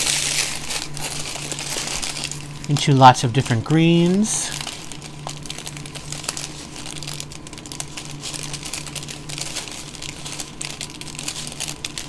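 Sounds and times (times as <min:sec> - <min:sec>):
plastic bags crinkling: 0:00.0 - 0:12.0
rhinestones rattling in bag: 0:00.0 - 0:12.0.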